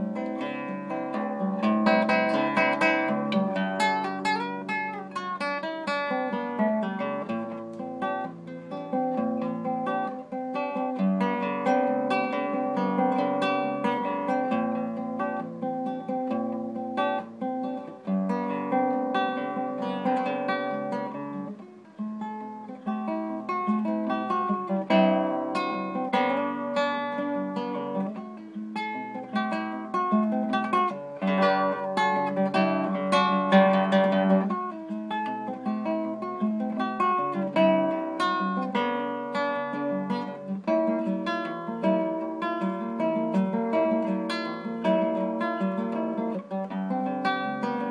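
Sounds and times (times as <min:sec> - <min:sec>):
classical guitar fingerstyle: 0:00.0 - 0:47.9.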